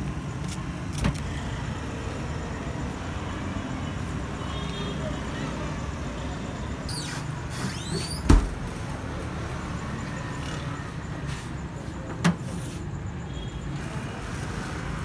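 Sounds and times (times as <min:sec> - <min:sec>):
street and traffic noise: 0:00.0 - 0:15.0.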